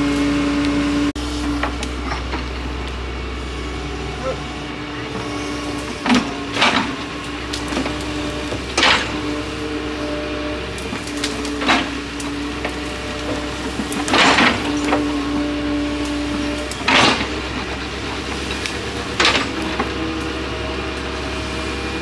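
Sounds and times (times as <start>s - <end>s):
excavator engine hum: 0.0s - 22.0s
hydraulic whining tones: 0.0s - 22.0s.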